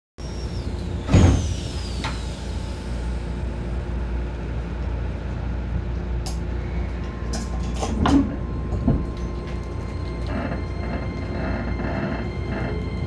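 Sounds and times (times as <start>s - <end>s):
electric train rumble and hum: 0.2s - 13.0s.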